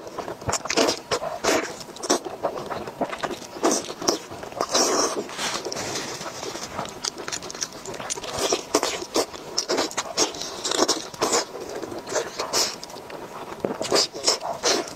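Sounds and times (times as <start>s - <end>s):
wet chewing and lip-smacking: 0.0s - 14.9s.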